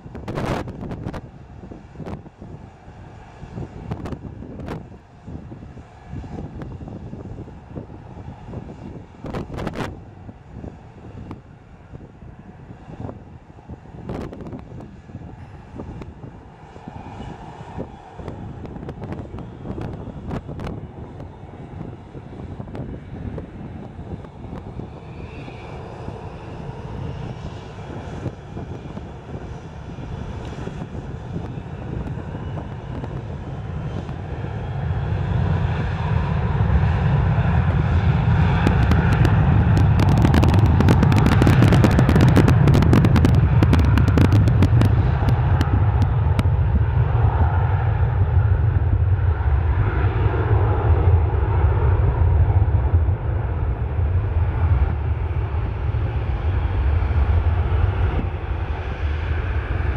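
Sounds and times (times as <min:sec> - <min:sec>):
jet engines at takeoff thrust: 0:00.0 - 0:59.9.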